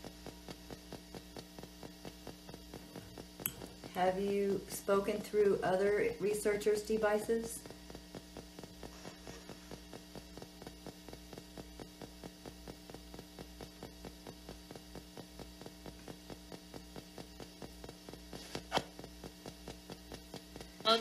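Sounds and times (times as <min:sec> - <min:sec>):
rapid ticking from small speaker: 0:00.0 - 0:21.0
steady electrical hum: 0:00.0 - 0:21.0.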